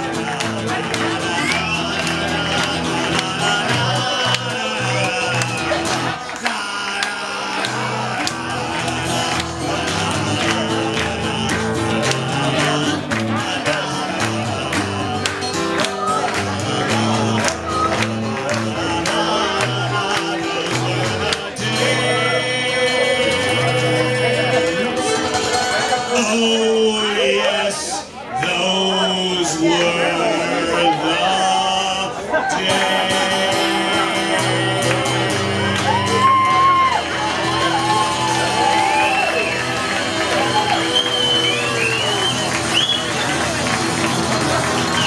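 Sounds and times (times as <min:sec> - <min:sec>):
second guitar: 0:00.0 - 0:45.0
strummed acoustic guitar: 0:00.0 - 0:45.0.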